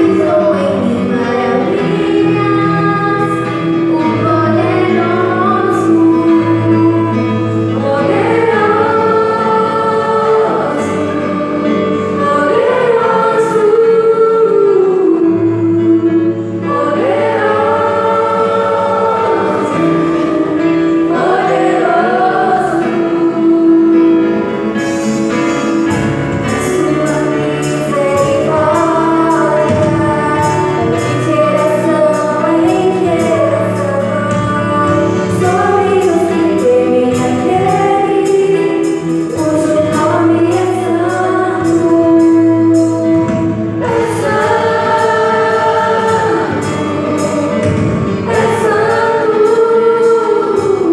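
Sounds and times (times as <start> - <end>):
children's choir singing: 0.0 - 50.9
instrumental accompaniment: 0.0 - 50.9.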